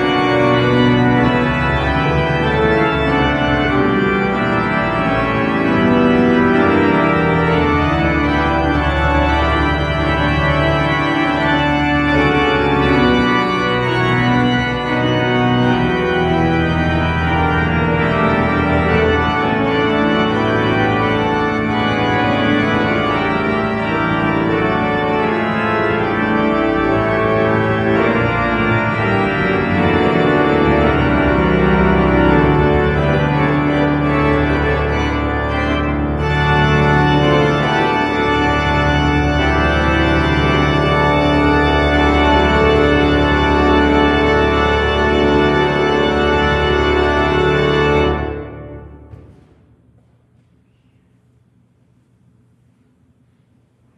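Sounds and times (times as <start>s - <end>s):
church organ playing chords: 0.0s - 49.7s.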